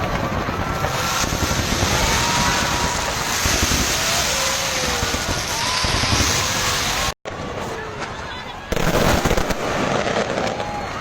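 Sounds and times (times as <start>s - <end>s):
fireworks crackling: 0.0s - 11.0s
fireworks whistling: 0.0s - 11.0s.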